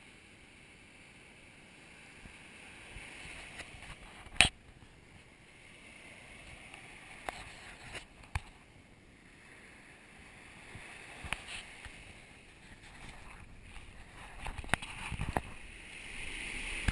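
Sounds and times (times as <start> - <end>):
small waves washing on shore: 0.0 - 16.9.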